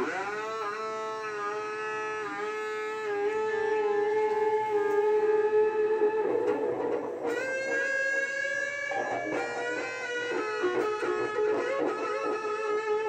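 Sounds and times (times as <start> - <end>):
electric guitar notes: 0.0 - 13.0.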